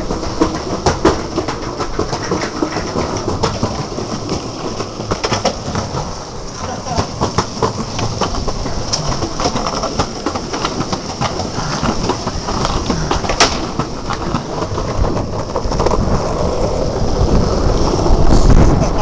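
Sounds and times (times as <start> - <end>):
longboard wheels rolling on asphalt: 0.0 - 19.0.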